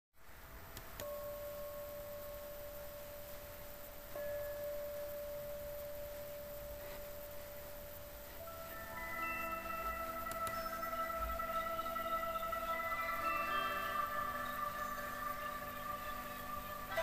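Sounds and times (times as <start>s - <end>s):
faint hiss: 0.2s - 17.0s
pure ringing tone: 0.6s - 17.0s.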